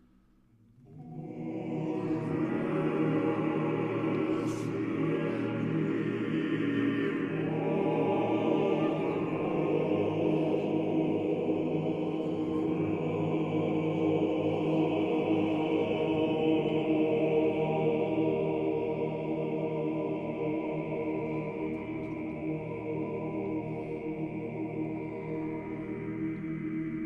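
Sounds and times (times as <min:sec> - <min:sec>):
church choir chanting: 0:00.8 - 0:27.0.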